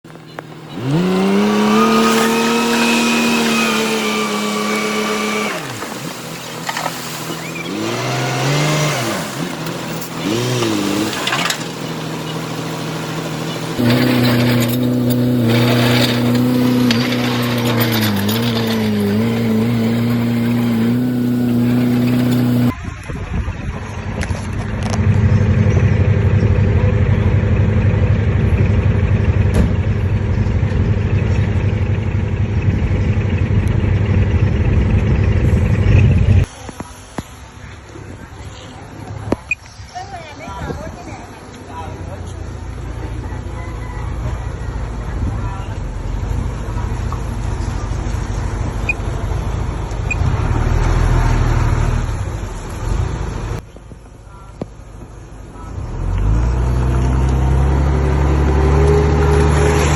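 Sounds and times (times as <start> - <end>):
rough low engine rumble: 0.0 - 59.9
heavy diesel machinery revving: 0.1 - 22.8, 23.8 - 36.5, 41.9 - 53.6, 55.6 - 59.9.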